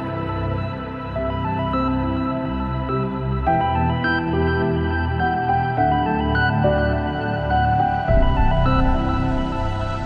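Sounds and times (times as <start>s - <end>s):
ambient music: 0.0s - 10.0s.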